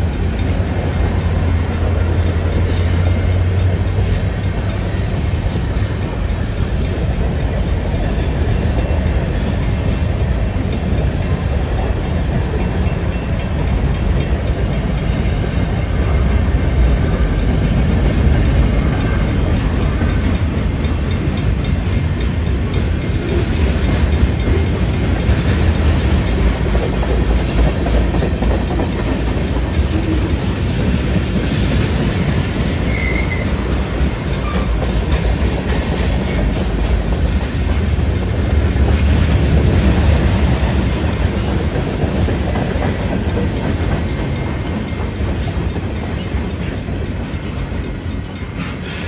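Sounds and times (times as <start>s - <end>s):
train cars rumbling past: 0.0s - 49.0s
wheels clacking over rail joints: 0.0s - 49.0s.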